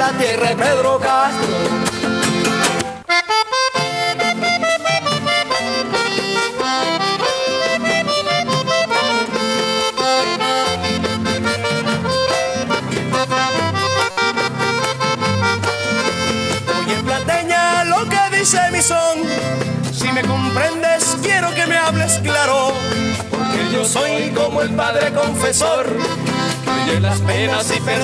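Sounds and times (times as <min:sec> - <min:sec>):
accordion melodic run: 0:00.0 - 0:28.0
band accompaniment: 0:00.0 - 0:28.0.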